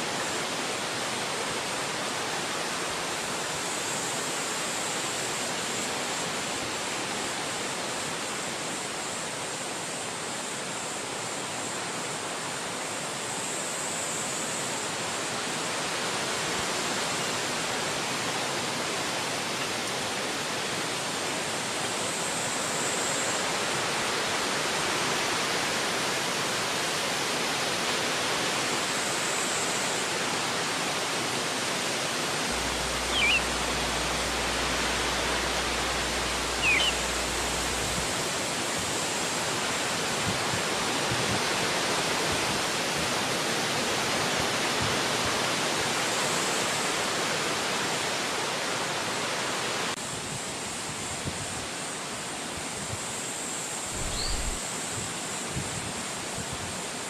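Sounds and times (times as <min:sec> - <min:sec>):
wind blowing through trees: 0:00.0 - 0:57.0.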